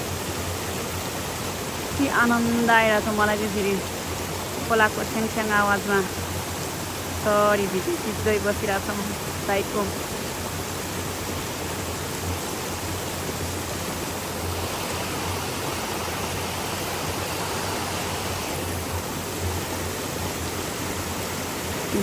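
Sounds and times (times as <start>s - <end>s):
stream splashing over rocks: 0.0s - 22.0s.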